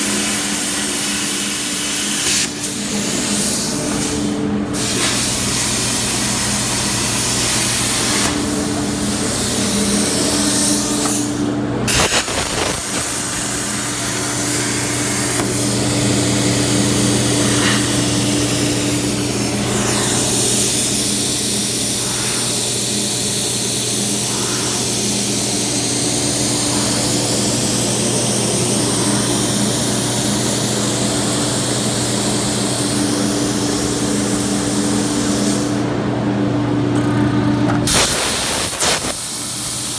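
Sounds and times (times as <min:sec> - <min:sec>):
cutting torch hissing: 0:00.0 - 0:35.8, 0:37.9 - 0:39.9
machine hum: 0:00.0 - 0:39.4.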